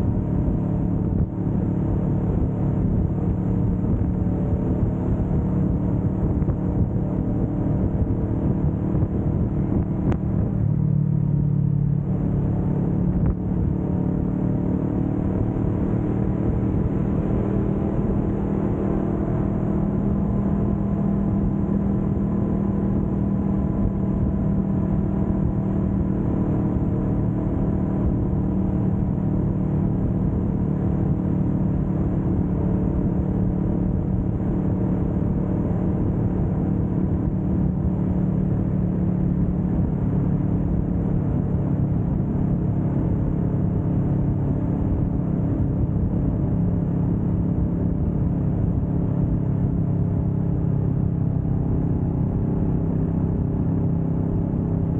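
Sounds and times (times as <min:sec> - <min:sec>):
motorcycle engine cruising: 0:00.0 - 0:54.9
road and air noise: 0:00.0 - 0:54.9.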